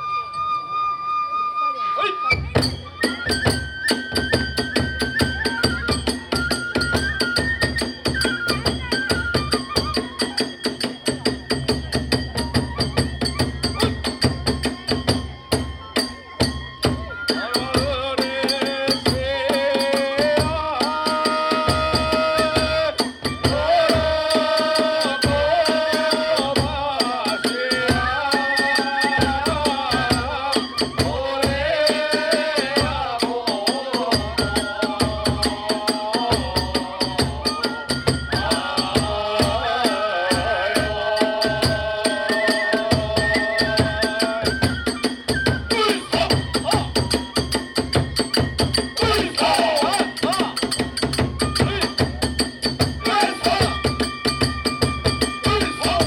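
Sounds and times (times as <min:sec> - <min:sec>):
small hand-cymbal beats: 0:02.3 - 0:56.0
fast drum beats: 0:02.5 - 0:56.0.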